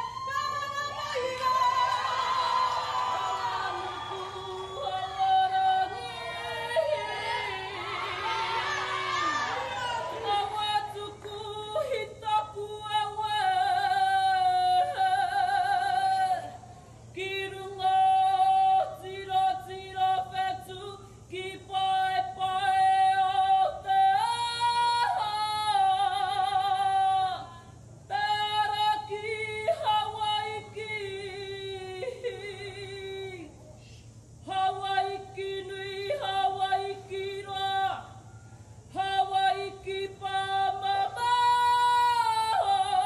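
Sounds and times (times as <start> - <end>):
woman singing unaccompanied: 0.0 - 43.0.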